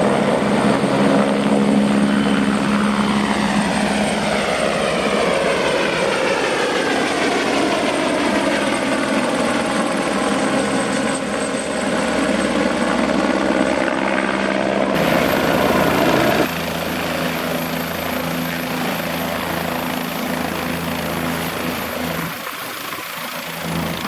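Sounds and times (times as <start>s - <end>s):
helicopter turbine and rotor: 0.0s - 24.0s.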